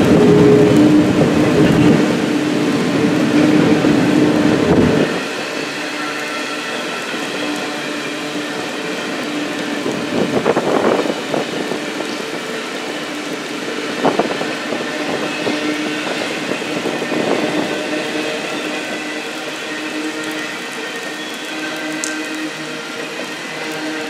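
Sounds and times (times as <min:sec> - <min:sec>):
train rolling on rails: 0:00.0 - 0:24.0.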